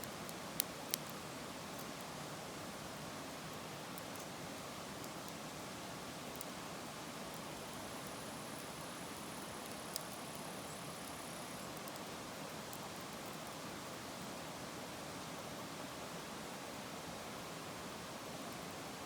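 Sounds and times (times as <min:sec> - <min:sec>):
wood fire hissing and crackling: 0:00.0 - 0:19.0.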